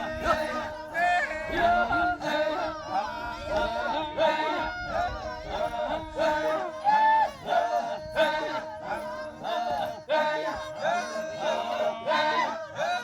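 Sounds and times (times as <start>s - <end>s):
group singing rhythmic chant: 0.0s - 13.0s.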